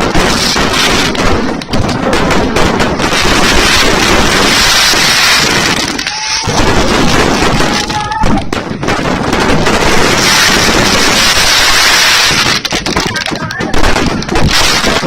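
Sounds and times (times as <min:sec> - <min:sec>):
fireworks and firecrackers crackling: 0:00.0 - 0:15.0.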